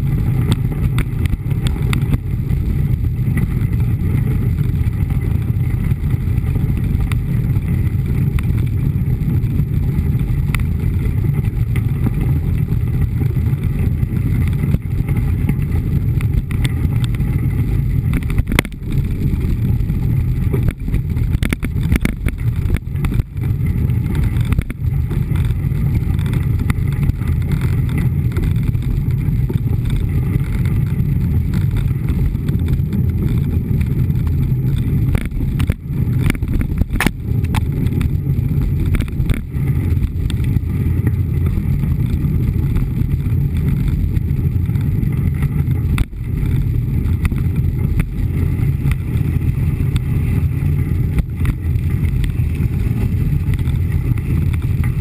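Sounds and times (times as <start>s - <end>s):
bike tyres on gravel: 0.0s - 55.0s
wind on microphone: 0.0s - 55.0s.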